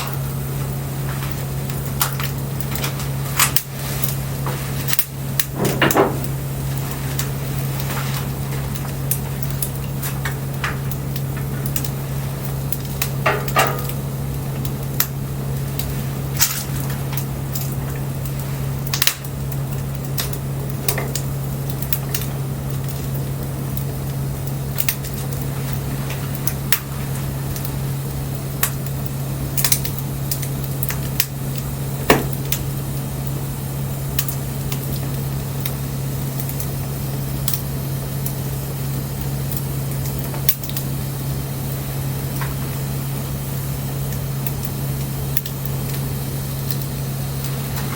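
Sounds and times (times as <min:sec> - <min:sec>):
sharp snaps and pops: 0:00.0 - 0:47.9
steady low hum: 0:00.0 - 0:47.9
wood fire crackling: 0:00.0 - 0:47.9.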